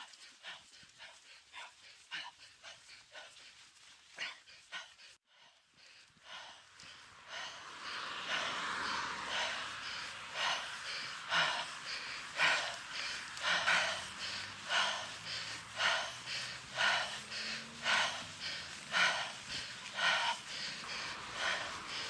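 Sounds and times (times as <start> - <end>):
person breathing hard: 0.0 - 22.0.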